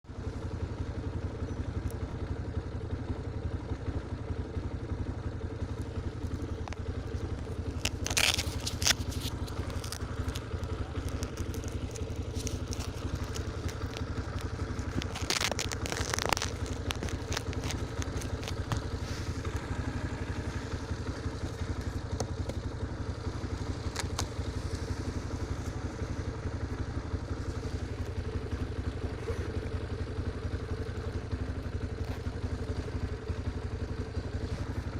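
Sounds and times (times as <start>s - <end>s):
motorcycle engine running: 0.0s - 34.9s
scraping crackling bursts: 5.7s - 34.9s.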